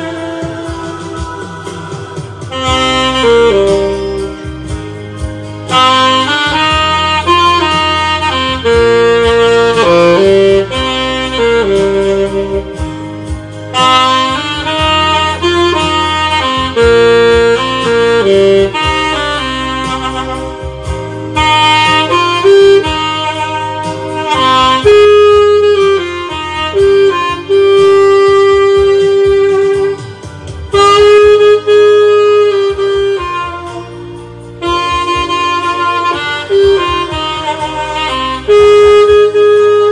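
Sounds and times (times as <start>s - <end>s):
saxophone playing jazzy melody: 0.0s - 39.9s.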